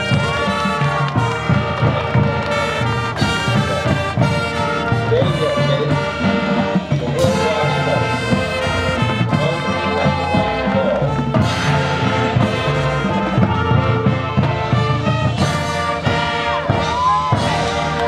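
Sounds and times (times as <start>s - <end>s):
marching band playing: 0.0s - 18.0s.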